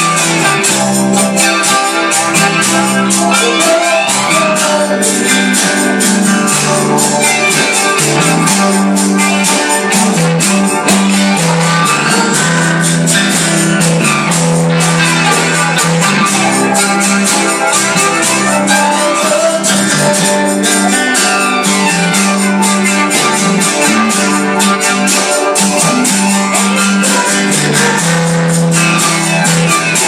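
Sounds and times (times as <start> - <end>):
gospel band music: 0.0 - 30.0.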